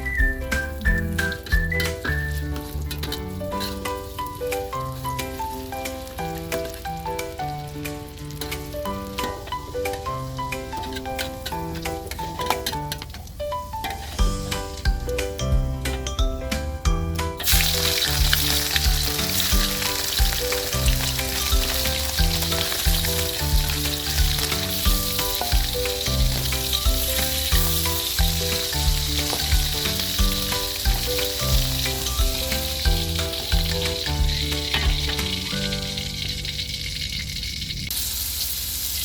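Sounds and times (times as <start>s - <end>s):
background music with beat: 0.0s - 12.8s, 14.1s - 36.3s
food sizzling in hot oil: 0.0s - 15.4s, 17.4s - 39.0s.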